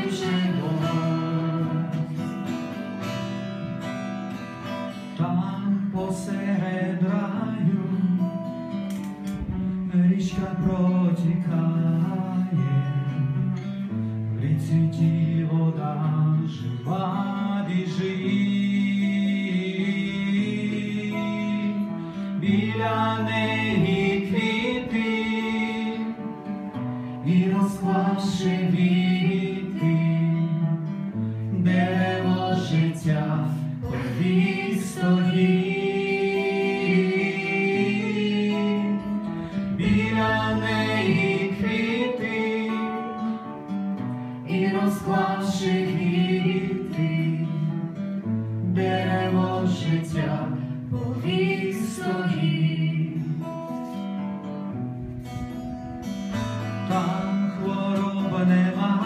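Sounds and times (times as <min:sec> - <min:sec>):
man and woman singing: 0:00.0 - 0:02.7, 0:05.1 - 0:08.8, 0:09.5 - 0:26.4, 0:27.0 - 0:43.5, 0:44.2 - 0:48.0, 0:48.6 - 0:53.5, 0:56.8 - 0:59.0
acoustic guitar strumming: 0:00.0 - 0:59.0.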